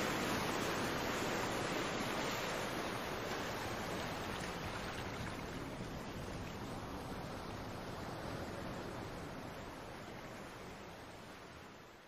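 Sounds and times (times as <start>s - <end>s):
ocean surf washing: 0.0s - 11.6s.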